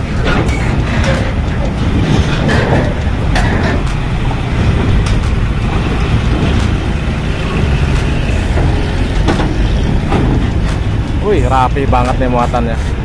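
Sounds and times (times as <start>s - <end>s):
diesel truck engine rumble: 0.0s - 13.0s
wheels clanking over steel grating: 0.0s - 13.0s.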